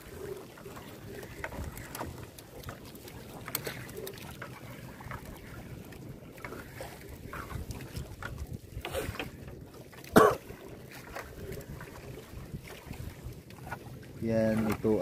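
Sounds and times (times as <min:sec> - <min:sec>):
water dripping and splashing: 0:00.0 - 0:09.4, 0:10.0 - 0:15.0
waves: 0:00.0 - 0:15.0
wind: 0:00.0 - 0:15.0.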